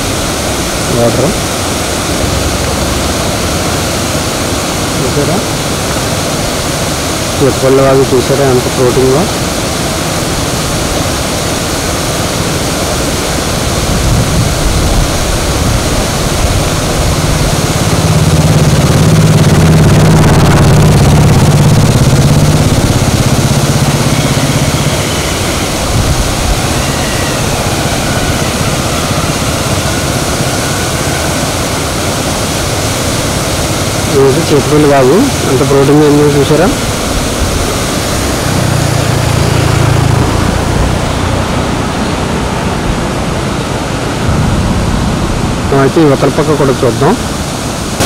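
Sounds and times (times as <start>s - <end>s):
vehicle engine hum: 0.0s - 48.0s
water rushing over rocks: 0.0s - 48.0s.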